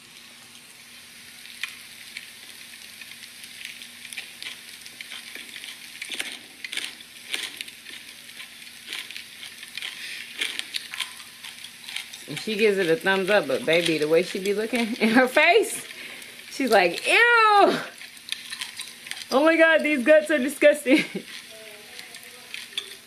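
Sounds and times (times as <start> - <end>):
wet chewing crackle: 1.6 - 23.0.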